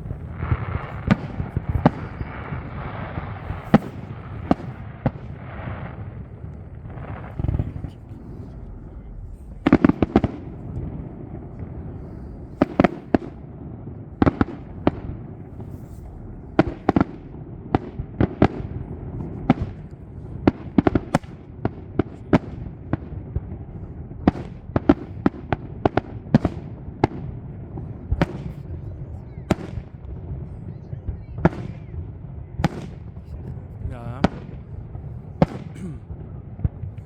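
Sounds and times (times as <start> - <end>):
fireworks bursting: 0.0 - 37.0
low background rumble: 0.0 - 37.0.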